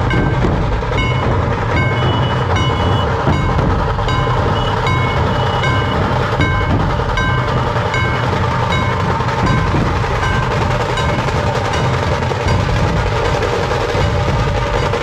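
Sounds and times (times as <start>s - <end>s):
drums playing: 0.0s - 15.0s.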